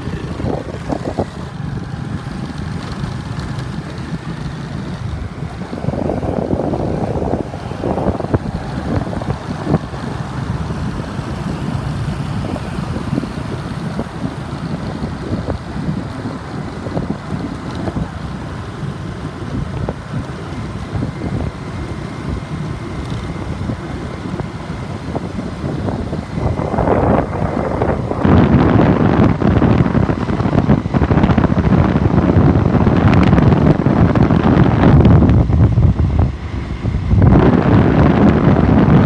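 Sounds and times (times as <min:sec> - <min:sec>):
motorbike traffic: 0:00.0 - 0:39.0
wind buffeting microphone: 0:00.0 - 0:39.0.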